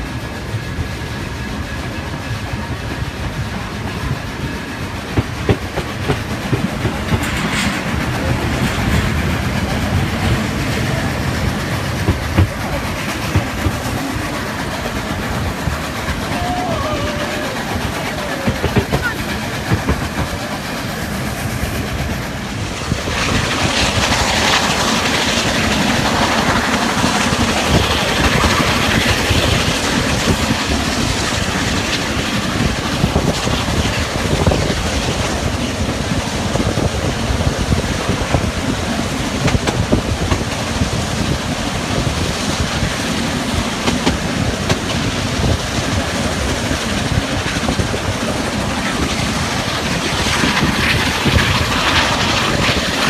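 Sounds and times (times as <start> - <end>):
steam locomotives working: 0.0 - 53.0
train wheels clattering over rail joints: 0.1 - 53.0.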